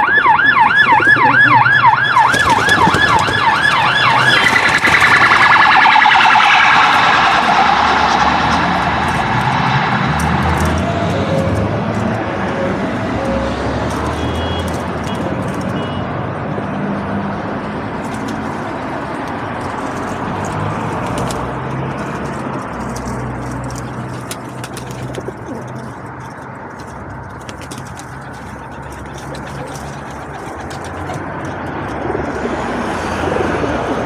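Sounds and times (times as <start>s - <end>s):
pigeons cooing: 0.0s - 15.8s, 18.0s - 34.0s.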